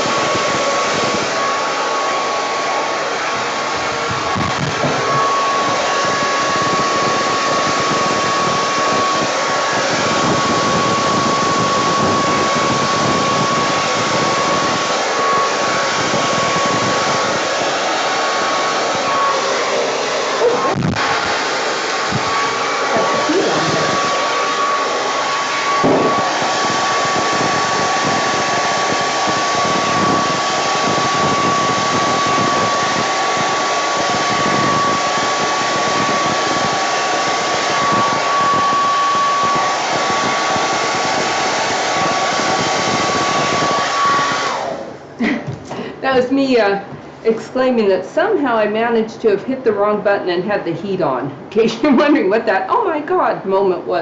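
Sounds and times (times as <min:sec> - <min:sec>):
hair dryer running: 0:00.0 - 0:48.7, 0:51.5 - 0:53.7.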